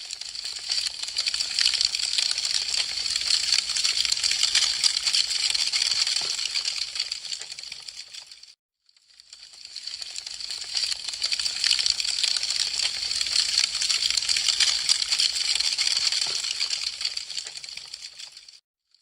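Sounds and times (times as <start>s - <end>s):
wood fire crackling: 0.0s - 8.5s, 9.4s - 18.6s.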